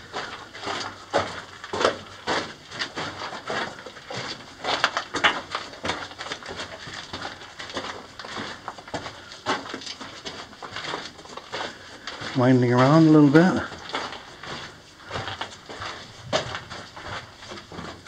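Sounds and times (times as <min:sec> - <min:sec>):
footsteps on loose gravel: 0:00.0 - 0:18.0.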